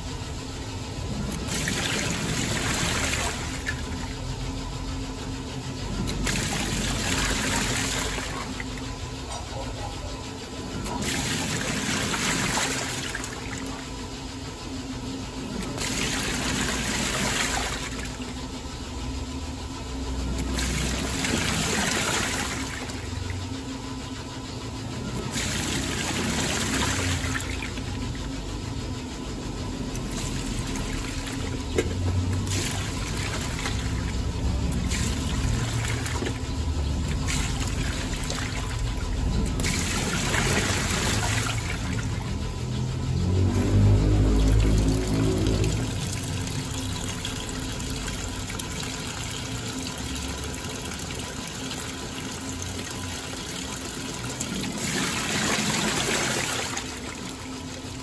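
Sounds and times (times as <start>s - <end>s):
washing machine water sloshing: 0.0s - 58.0s.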